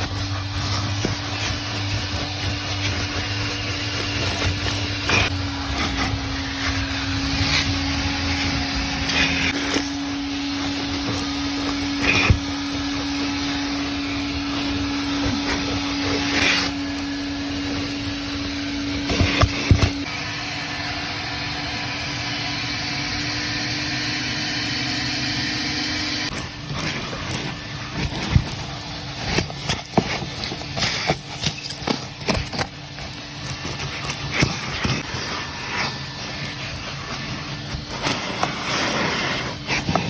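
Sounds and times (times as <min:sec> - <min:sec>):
vacuum running: 0:00.0 - 0:40.0.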